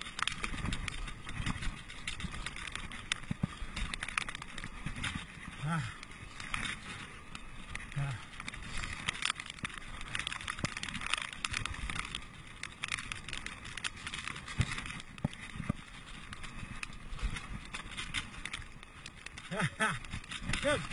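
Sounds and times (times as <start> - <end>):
bike rattling clicks and knocks: 0.0 - 20.9
bike tyres on gravel trail: 0.0 - 20.9.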